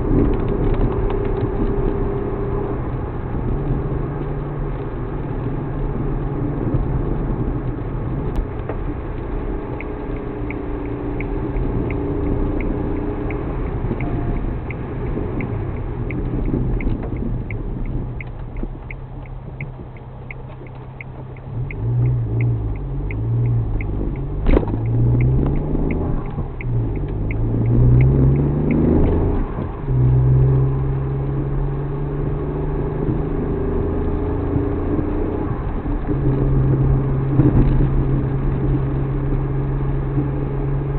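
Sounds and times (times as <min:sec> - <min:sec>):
car engine running while driving: 0:00.0 - 0:40.9.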